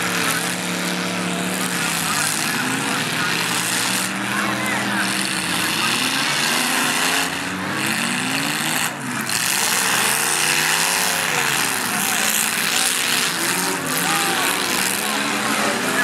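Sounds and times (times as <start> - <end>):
car engines revving: 0.0 - 16.0
noisy din: 0.0 - 16.0.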